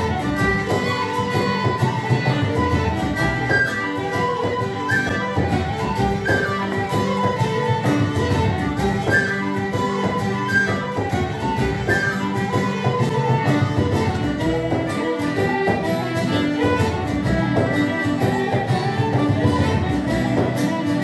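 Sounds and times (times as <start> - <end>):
fiddle: 0.0 - 21.0
plucked string instrument: 0.0 - 21.0
whistles playing melody: 0.0 - 21.0.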